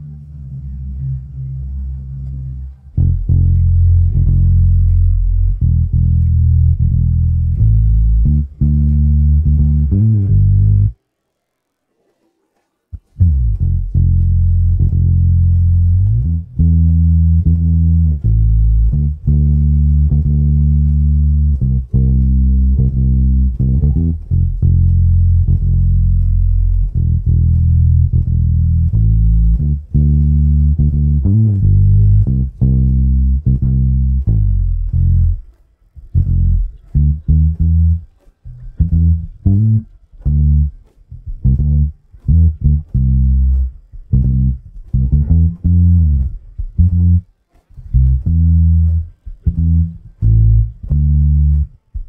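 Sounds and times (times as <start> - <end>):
deep bass line: 0.0 - 11.0, 13.0 - 52.0.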